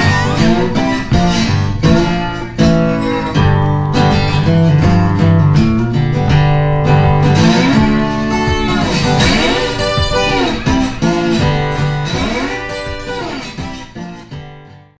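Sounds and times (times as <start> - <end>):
guitar music with bending notes: 0.0 - 15.0.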